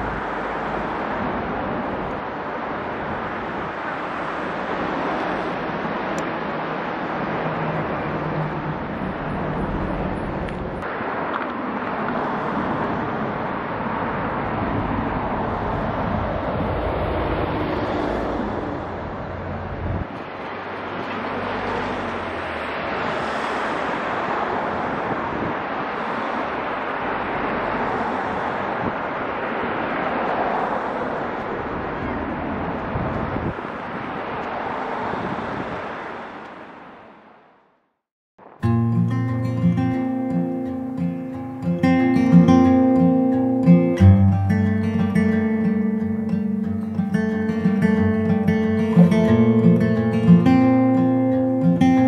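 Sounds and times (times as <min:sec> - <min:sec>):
outdoor ambient rush: 0:00.0 - 0:52.0.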